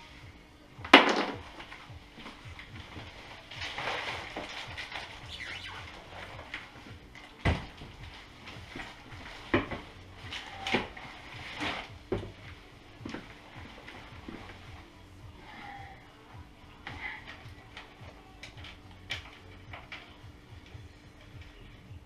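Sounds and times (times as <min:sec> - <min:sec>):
rustling handling noise: 0:00.0 - 0:22.0.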